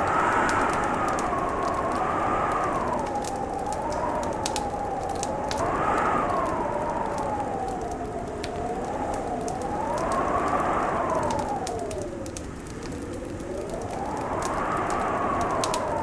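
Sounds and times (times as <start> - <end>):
howling wind: 0.0 - 16.0
wood fire crackling and popping: 0.0 - 16.0.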